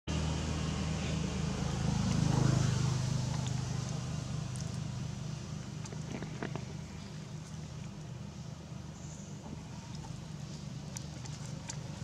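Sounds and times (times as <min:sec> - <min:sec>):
low engine-like hum: 0:00.1 - 0:12.0.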